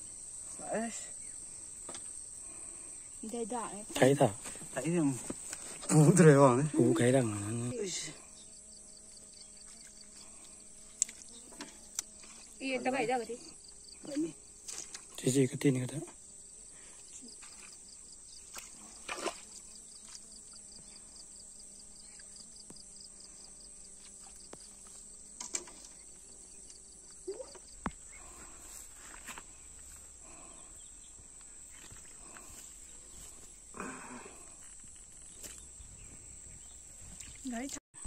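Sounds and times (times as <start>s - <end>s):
insect chirping: 0.0s - 38.0s
insects droning: 0.0s - 38.0s.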